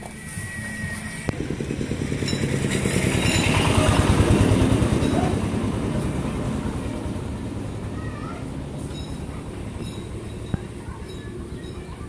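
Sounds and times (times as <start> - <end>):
vehicle engine passing by: 0.1 - 12.0.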